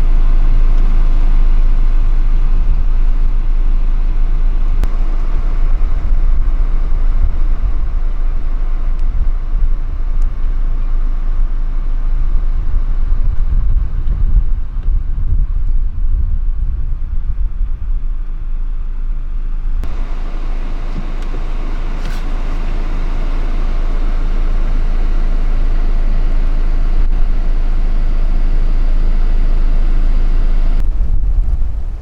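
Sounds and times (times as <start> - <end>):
road and wind noise from vehicle: 0.0 - 32.0.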